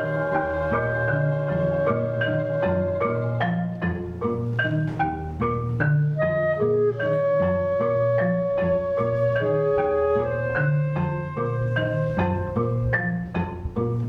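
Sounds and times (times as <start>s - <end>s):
chamber ensemble playing: 0.0s - 14.0s.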